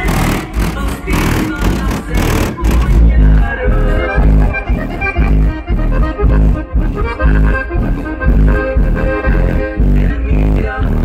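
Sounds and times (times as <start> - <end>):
bass-heavy music on car audio: 0.0 - 11.0.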